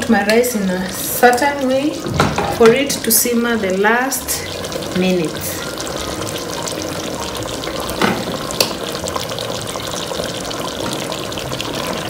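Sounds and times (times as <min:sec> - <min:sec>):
curry simmering hiss: 0:00.0 - 0:12.0.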